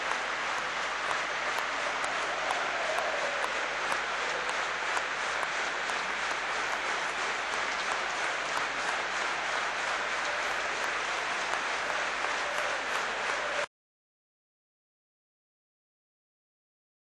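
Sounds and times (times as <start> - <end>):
stadium crowd applauding: 0.0 - 13.7.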